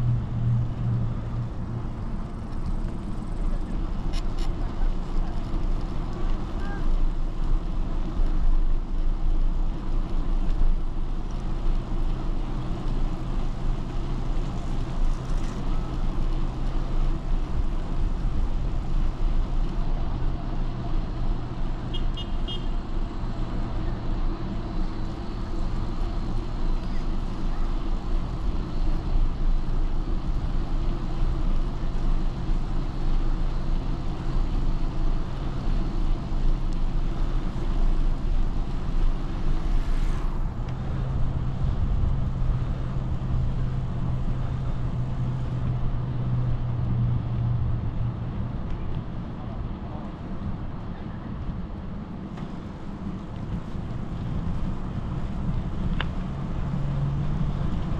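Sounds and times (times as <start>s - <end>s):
bicycle rolling on asphalt: 0.0s - 21.9s, 22.8s - 49.4s, 50.0s - 57.9s.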